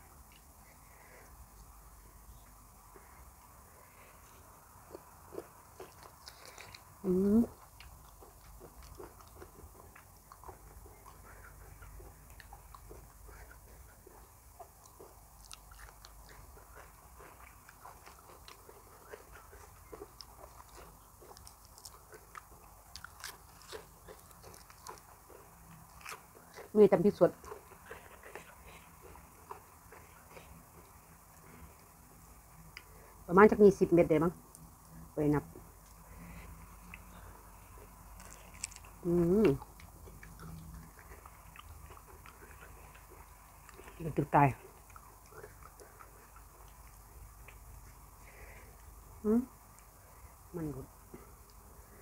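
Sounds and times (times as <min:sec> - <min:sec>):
person chewing crunchy vegetables: 0:00.0 - 0:32.0, 0:35.6 - 0:49.0.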